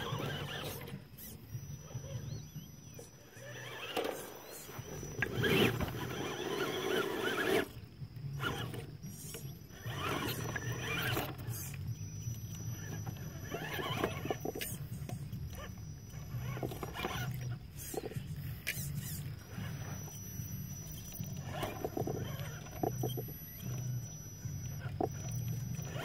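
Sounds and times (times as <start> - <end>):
toy truck motor whining: 0.0 - 26.0.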